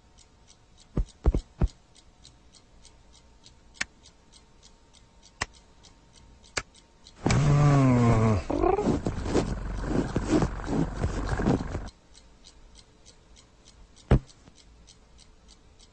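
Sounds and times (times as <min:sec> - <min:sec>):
faint ticking: 0:00.0 - 0:15.9.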